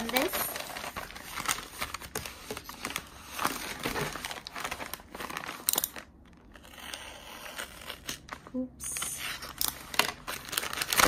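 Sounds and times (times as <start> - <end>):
packaging rustling and crinkling: 0.0 - 6.7, 7.6 - 11.0.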